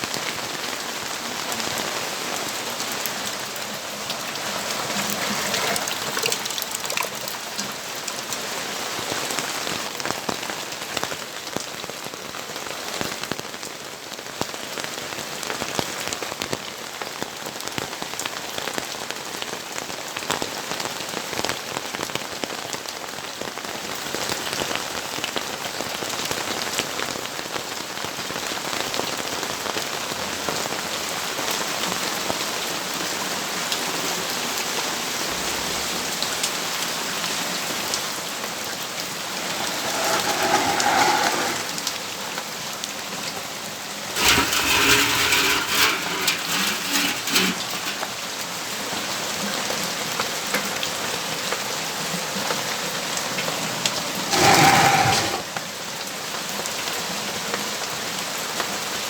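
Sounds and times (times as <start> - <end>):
rain pattering on a surface: 0.0 - 39.7, 47.6 - 59.0.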